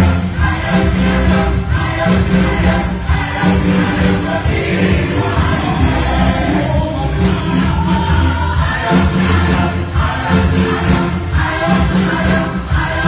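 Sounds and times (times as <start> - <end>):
band with strong bass line: 0.0 - 13.0
gospel choir singing: 0.0 - 13.0.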